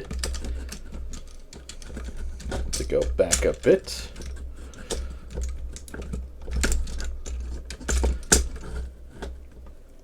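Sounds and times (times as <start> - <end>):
plastic parts clicking and snapping: 0.0 - 9.8
steady low hum: 0.0 - 10.0.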